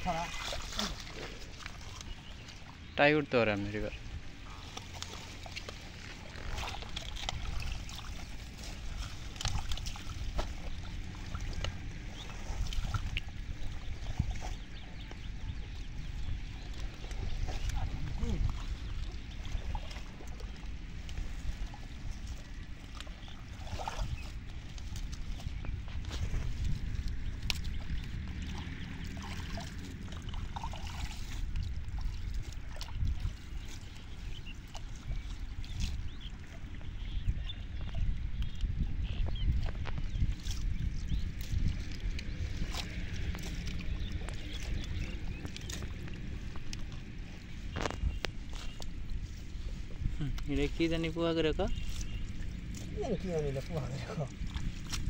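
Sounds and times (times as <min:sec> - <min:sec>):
low rumble: 0:00.0 - 0:55.0
small water splashes: 0:00.0 - 0:55.0.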